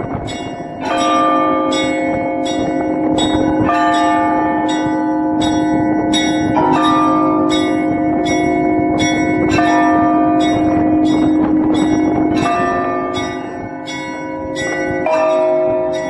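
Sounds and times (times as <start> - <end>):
large bells ringing: 0.0 - 16.0
small church bells struck quickly: 0.0 - 16.0.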